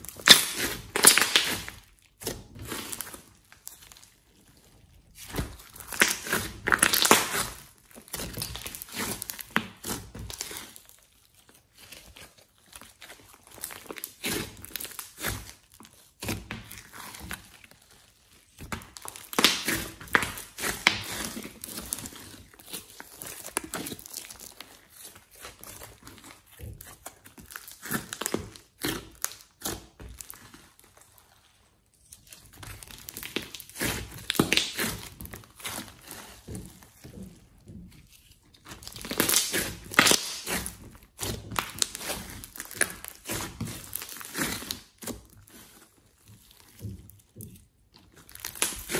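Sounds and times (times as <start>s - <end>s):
slime squished by hand: 0.0s - 48.9s.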